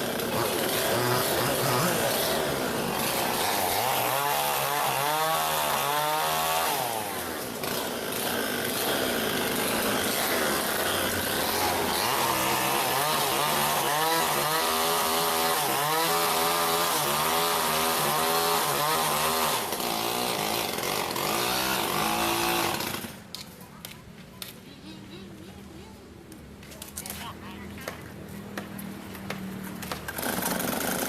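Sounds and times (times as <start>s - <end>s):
chainsaw cutting wood: 0.0s - 24.0s, 27.8s - 31.0s.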